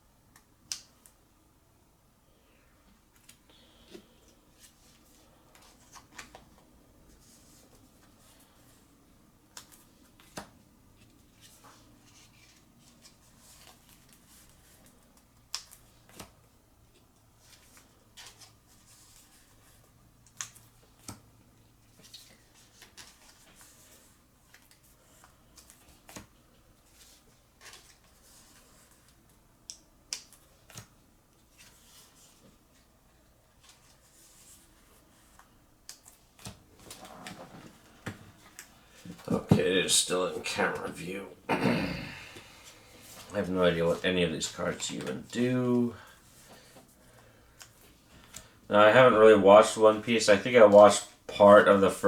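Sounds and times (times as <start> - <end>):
rustling of card sleeves: 3.1 - 29.5, 30.1 - 41.0, 42.3 - 52.0.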